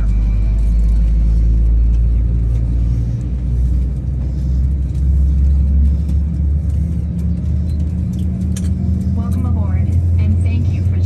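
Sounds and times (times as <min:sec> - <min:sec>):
airplane cabin rumble and hum: 0:00.0 - 0:11.0.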